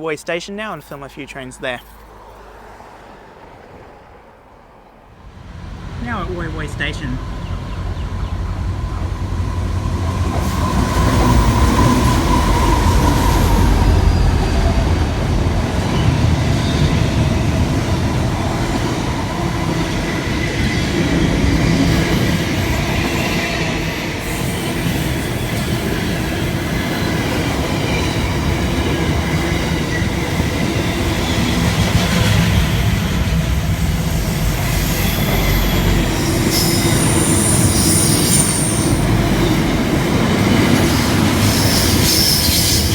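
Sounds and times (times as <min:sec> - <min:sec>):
train wheels rumbling on rails: 0:05.1 - 0:42.9.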